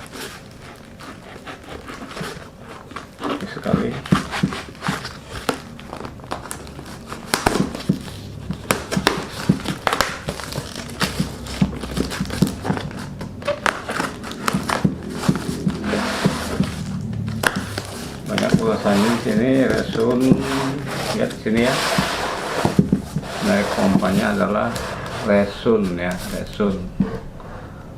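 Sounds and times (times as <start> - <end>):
packaging crinkling: 0.0 - 26.8.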